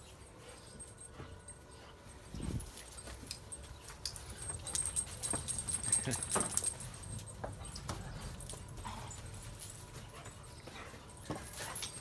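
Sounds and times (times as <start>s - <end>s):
dogs scuffling: 0.0s - 12.0s.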